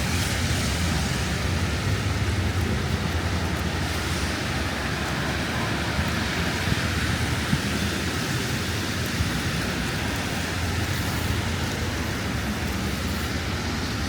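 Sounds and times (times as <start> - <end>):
gusting wind: 0.0 - 14.0
traffic: 0.0 - 14.0
wind buffeting microphone: 0.0 - 14.0.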